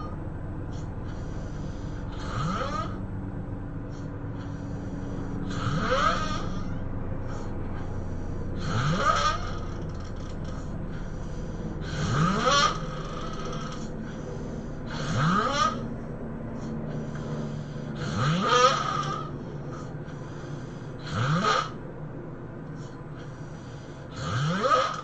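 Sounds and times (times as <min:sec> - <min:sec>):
person snoring: 0:00.7 - 0:03.0, 0:03.9 - 0:06.7, 0:07.3 - 0:15.8, 0:16.6 - 0:21.8, 0:22.8 - 0:25.0.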